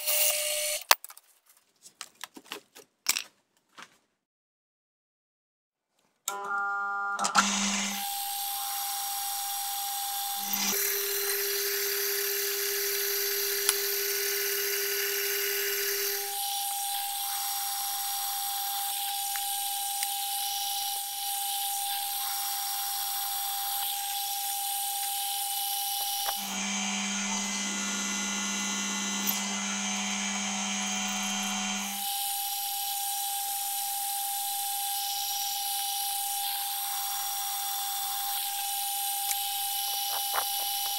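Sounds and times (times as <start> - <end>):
drilling machine whine: 0.0 - 0.8, 7.2 - 40.9.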